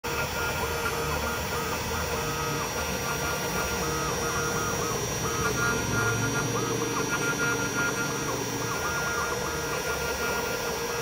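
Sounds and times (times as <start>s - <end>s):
milling machine motor whine: 0.0s - 11.0s
steady high tone: 0.1s - 11.0s.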